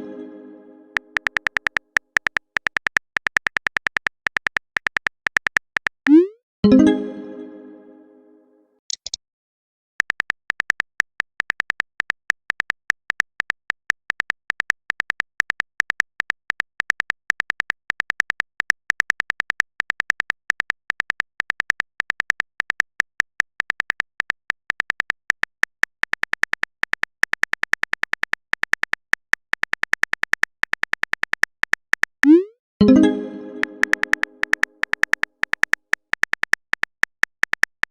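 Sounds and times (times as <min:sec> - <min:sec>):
phone keyboard typing clicks: 0:01.0 - 0:06.2, 0:10.0 - 0:32.5, 0:33.6 - 0:37.9.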